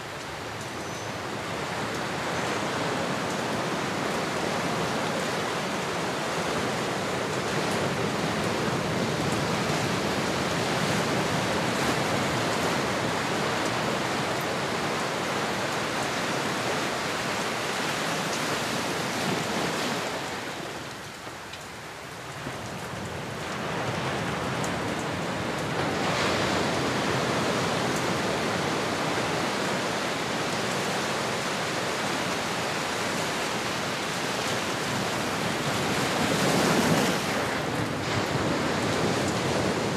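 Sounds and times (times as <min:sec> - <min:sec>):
ocean waves washing: 0:00.0 - 0:21.0, 0:23.2 - 0:39.9.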